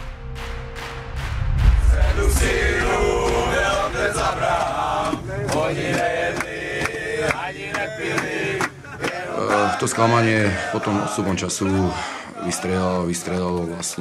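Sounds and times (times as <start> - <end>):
men singing and chanting: 1.8 - 14.0.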